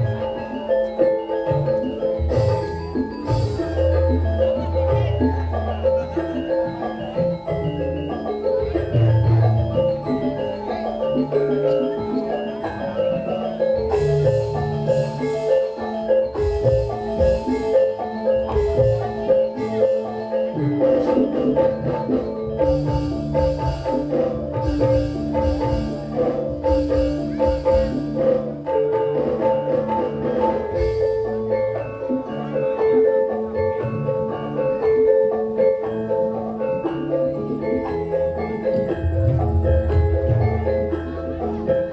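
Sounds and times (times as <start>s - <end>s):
drum strokes: 0.0s - 41.9s
struck metallophones ringing: 0.0s - 41.9s.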